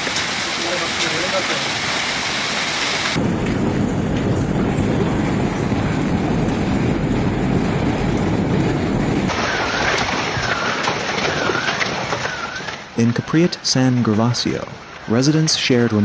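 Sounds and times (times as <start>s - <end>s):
rumbling storm noise: 0.0s - 16.0s.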